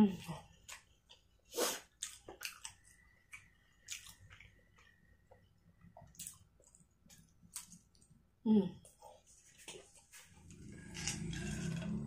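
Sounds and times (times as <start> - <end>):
person chewing food: 0.2 - 11.8.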